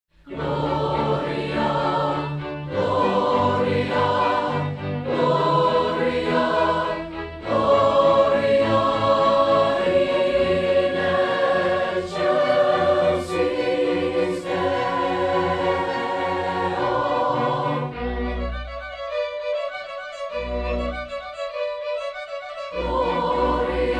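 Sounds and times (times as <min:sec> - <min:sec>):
choir singing: 0:00.2 - 0:18.9, 0:22.7 - 0:23.9.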